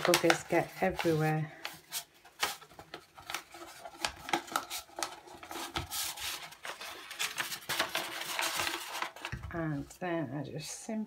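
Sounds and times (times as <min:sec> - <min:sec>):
paper rustling and crackling: 0:00.0 - 0:09.8.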